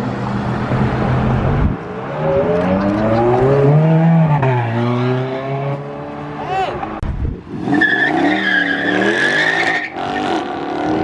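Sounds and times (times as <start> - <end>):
car engine accelerating hard: 0.1 - 11.0.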